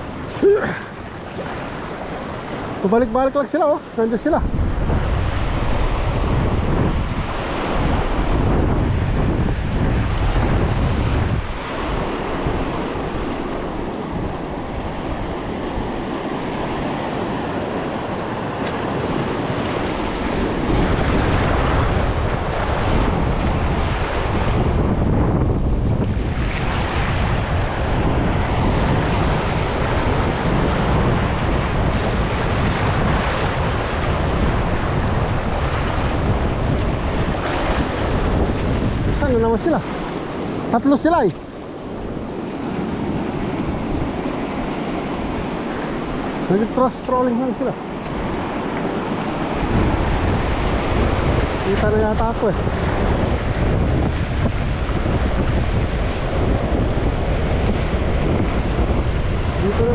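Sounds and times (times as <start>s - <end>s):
waves washing: 0.0s - 59.9s
wind buffeting microphone: 0.0s - 59.9s.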